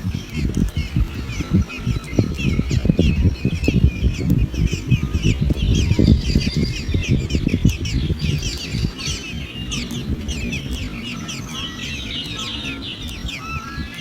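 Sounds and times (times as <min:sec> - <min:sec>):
birds chirping rapidly: 0:00.0 - 0:14.0
low rumbling noise: 0:00.0 - 0:14.0.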